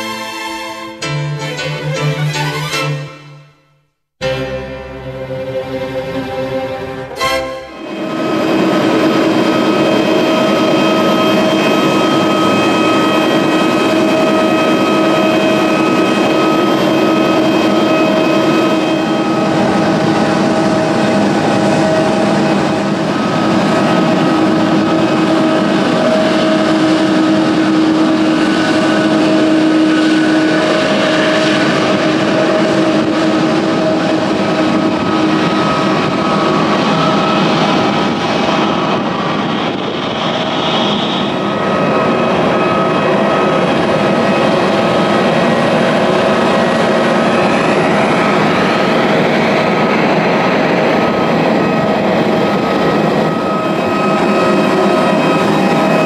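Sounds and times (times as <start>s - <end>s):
jet engines whining: 0.0s - 3.4s, 4.3s - 56.0s.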